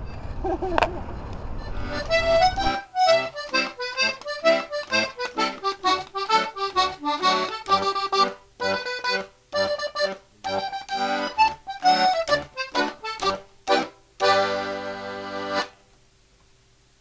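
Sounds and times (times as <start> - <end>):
lively accordion music: 1.5 - 15.8.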